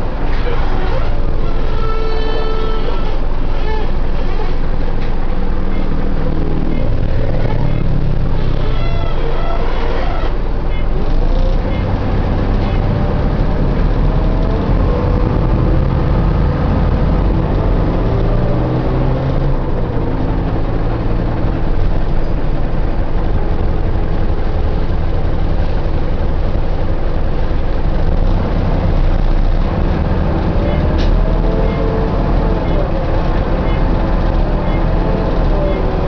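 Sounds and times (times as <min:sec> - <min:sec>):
bus engine drone: 0:00.0 - 0:36.0.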